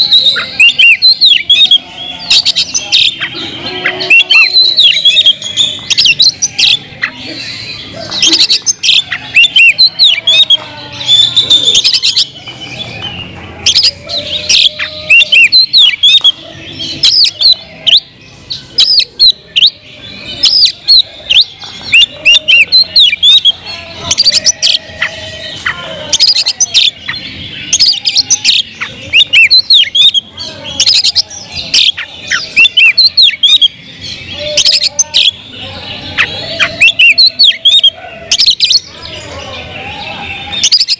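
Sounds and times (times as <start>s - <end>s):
bird whistling song: 0.0s - 35.5s, 36.1s - 39.0s, 40.0s - 40.9s.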